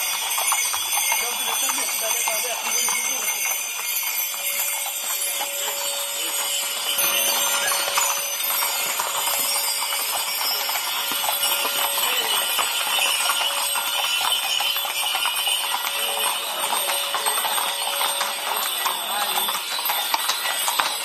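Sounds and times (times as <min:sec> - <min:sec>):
bells jingling: 0:00.0 - 0:21.0
horse hooves clip-clopping on pavement: 0:00.0 - 0:21.0.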